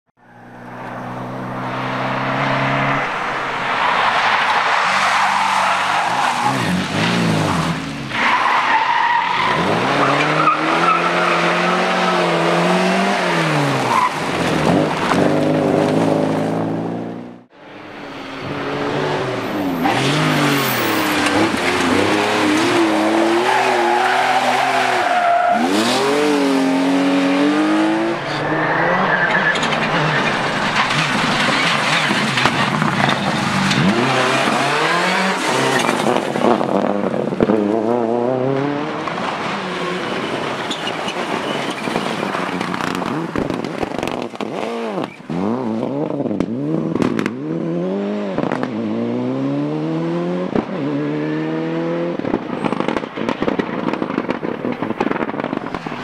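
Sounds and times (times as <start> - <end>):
rally car engines revving: 0.3 - 56.0.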